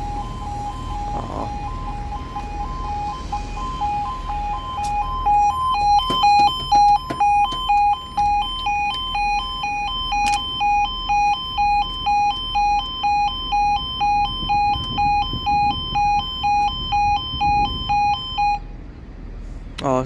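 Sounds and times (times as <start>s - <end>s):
two-tone crossing alarm: 0.0s - 18.7s.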